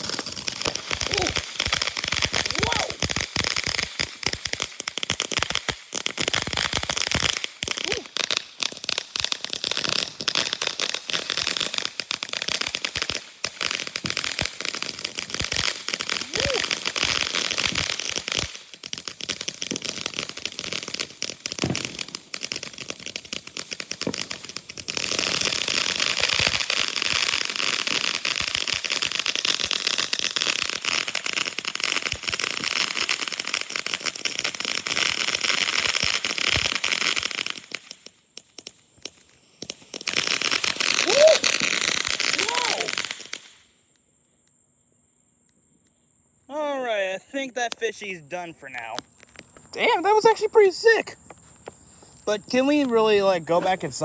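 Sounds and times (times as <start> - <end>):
firework crackling: 0.0 - 43.9, 46.5 - 54.0.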